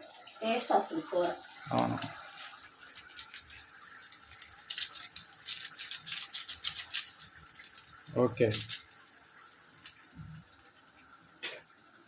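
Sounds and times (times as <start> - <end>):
faint crackles of cooking: 0.0 - 12.0.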